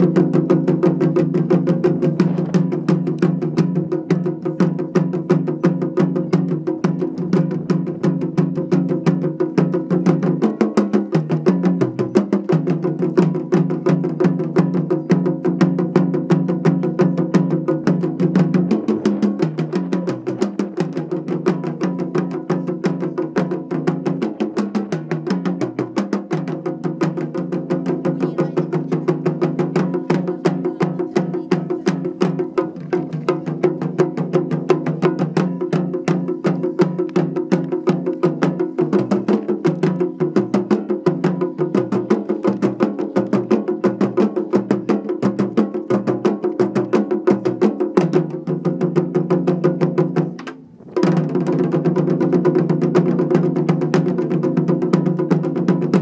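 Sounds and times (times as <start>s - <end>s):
drum ensemble playing: 0.0s - 56.0s.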